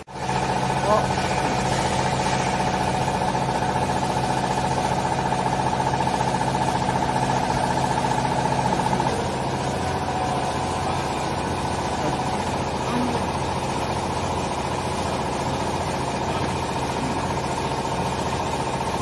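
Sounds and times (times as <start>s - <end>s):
baler motor and pump humming: 0.0s - 19.0s.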